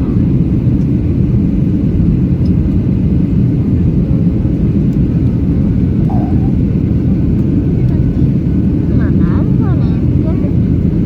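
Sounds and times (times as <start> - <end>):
airliner low rumble: 0.0 - 11.0.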